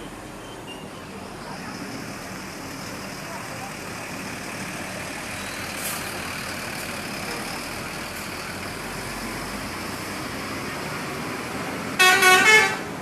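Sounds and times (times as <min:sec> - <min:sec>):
heavy vehicle engine: 0:00.0 - 0:13.0
vehicle engines and tyres: 0:00.0 - 0:13.0.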